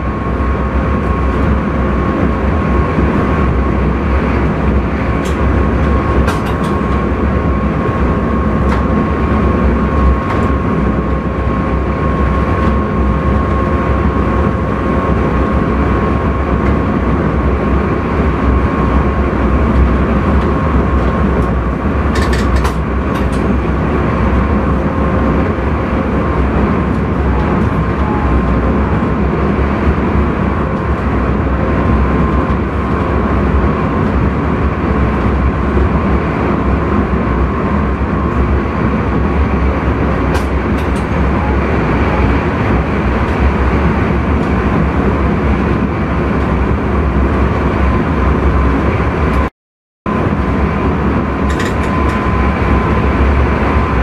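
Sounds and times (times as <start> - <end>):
steady whining tone: 0.0 - 49.5, 50.1 - 54.0
train wheels rumbling on rail: 0.0 - 49.5, 50.1 - 54.0.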